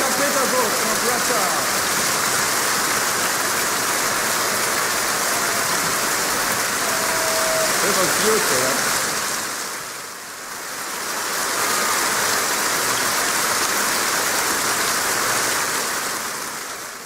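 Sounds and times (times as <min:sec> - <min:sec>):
crowd applauding: 0:00.0 - 0:09.9, 0:10.6 - 0:16.8.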